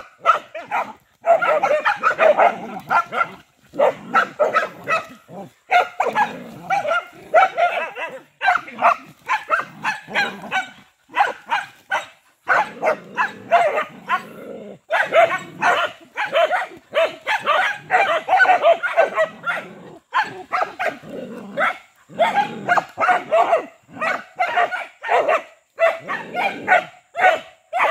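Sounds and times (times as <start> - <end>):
dogs barking: 0.0 - 27.9.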